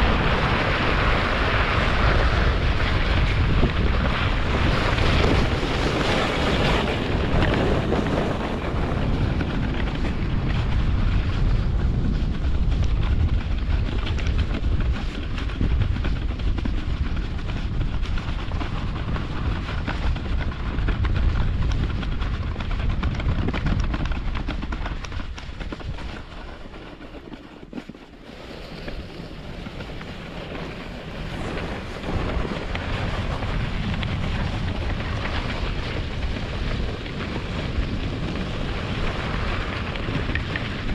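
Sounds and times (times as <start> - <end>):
toboggan runners scraping snow: 0.0 - 40.9
wind buffeting microphone: 0.0 - 40.9.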